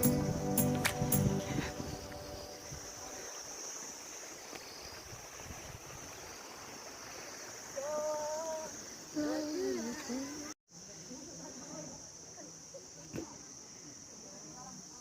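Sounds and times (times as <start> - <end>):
stream-like hiss: 0.0 - 15.0.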